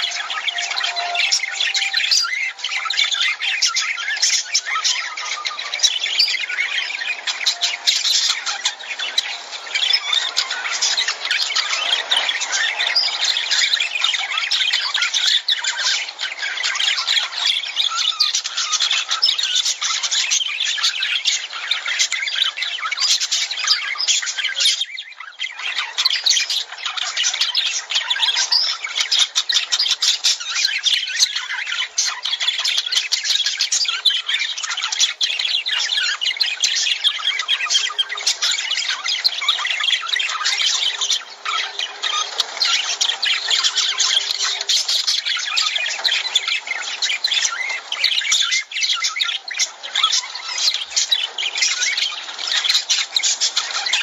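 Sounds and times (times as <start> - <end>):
birds chattering and squawking: 0.0 - 54.0.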